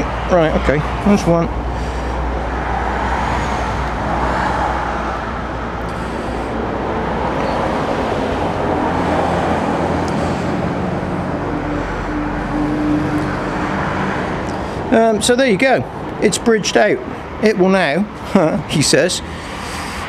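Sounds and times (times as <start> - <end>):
faint engine hum: 0.0 - 16.3
road traffic rumble: 0.0 - 20.0.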